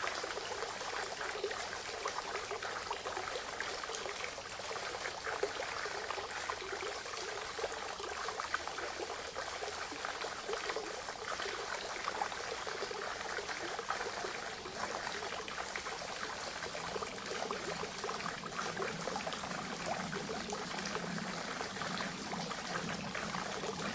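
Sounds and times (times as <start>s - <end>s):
water trickling and splashing: 0.0s - 23.9s.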